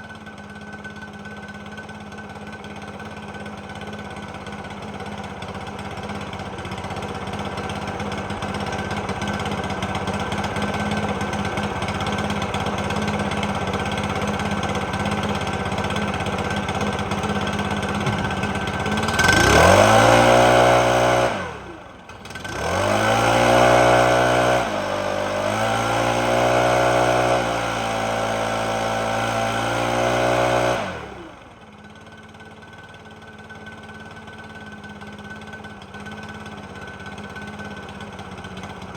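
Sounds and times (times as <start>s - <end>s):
leaf blower engine revving: 0.0s - 33.2s.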